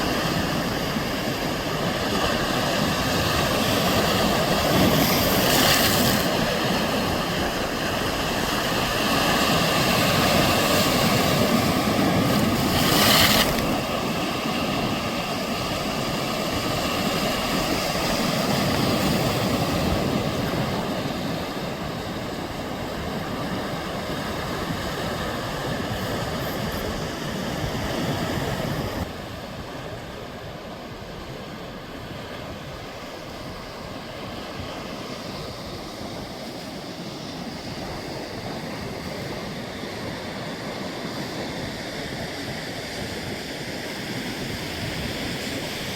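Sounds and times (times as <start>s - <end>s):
sea surf washing on shore: 0.0s - 45.9s.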